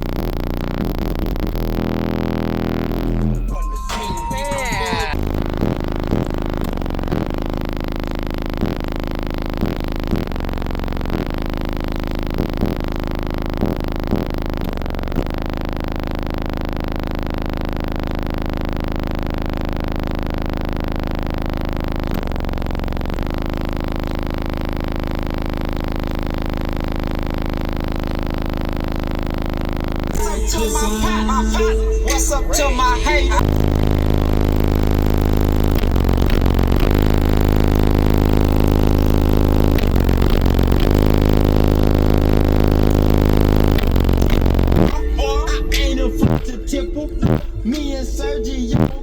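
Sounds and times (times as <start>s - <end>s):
loud sustained bass tone: 0.0s - 49.0s.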